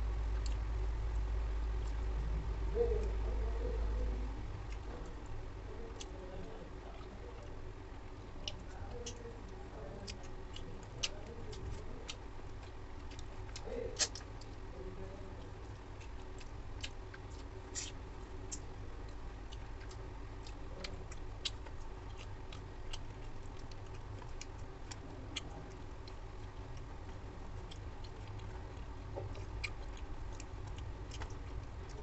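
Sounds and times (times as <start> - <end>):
low hum: 0.0 - 32.0
chewing: 0.3 - 32.0.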